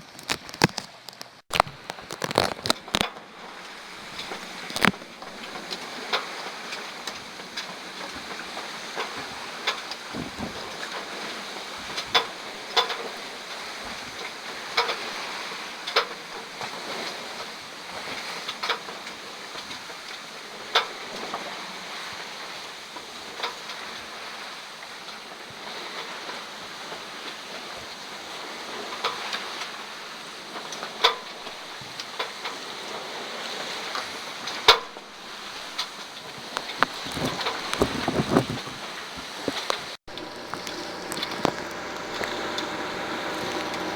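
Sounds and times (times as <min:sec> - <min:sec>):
wind: 0:00.0 - 0:43.9
water noise: 0:01.5 - 0:16.6, 0:21.7 - 0:43.9.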